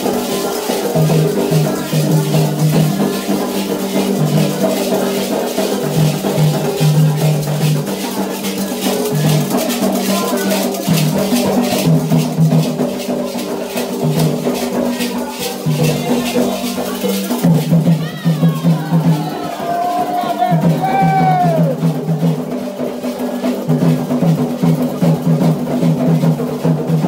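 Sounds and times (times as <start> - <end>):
ritual percussion music: 0.0 - 27.0.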